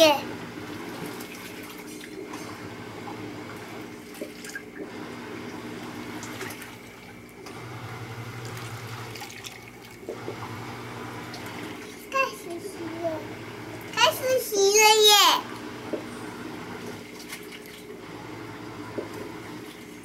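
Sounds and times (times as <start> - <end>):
low machine hum: 0.0 - 20.0
water rushing in washing machine: 0.0 - 20.0.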